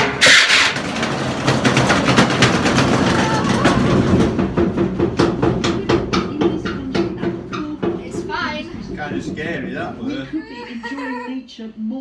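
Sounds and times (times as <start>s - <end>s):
object banging inside spinning drum: 0.0s - 10.5s.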